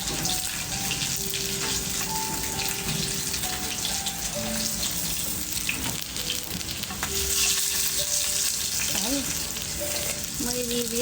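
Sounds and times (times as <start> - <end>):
food sizzling over fire: 0.0 - 11.0.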